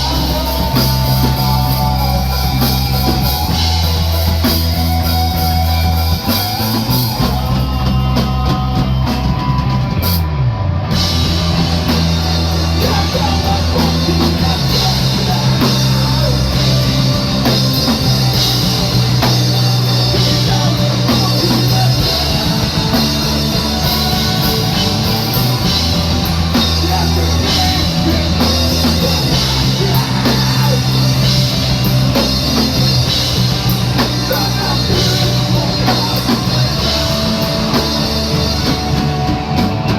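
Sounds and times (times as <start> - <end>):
bass line: 0.0 - 39.9
drum kit: 0.0 - 39.9
rock band playing live: 0.0 - 39.9.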